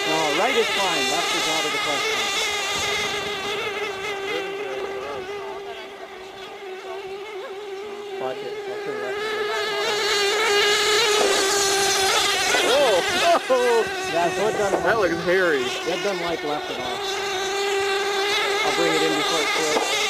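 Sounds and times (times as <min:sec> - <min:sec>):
model boat engine whining: 0:00.0 - 0:20.0.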